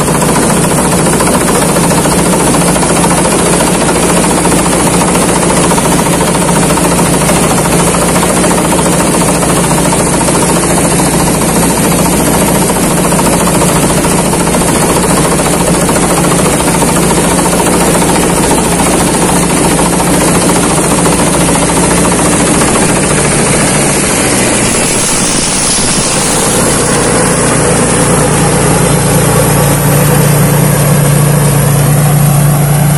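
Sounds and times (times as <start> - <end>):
combine harvester engine drone: 0.0 - 32.9
rapid mechanical clatter: 0.0 - 32.9.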